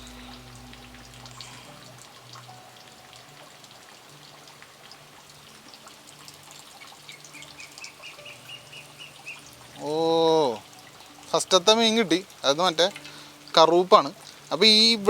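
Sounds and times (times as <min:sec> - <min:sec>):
water drips and splashes: 0:00.0 - 0:15.0
water trickling: 0:00.0 - 0:15.0.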